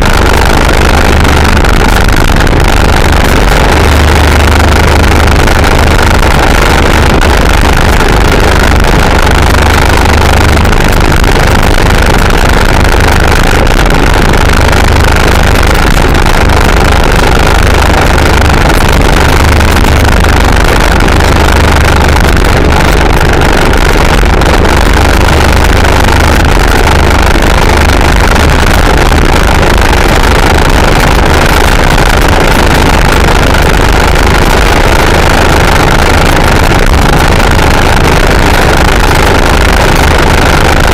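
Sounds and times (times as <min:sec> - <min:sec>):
scooter engine at full throttle: 0:00.0 - 0:40.9
wind rush on microphone: 0:00.0 - 0:40.9.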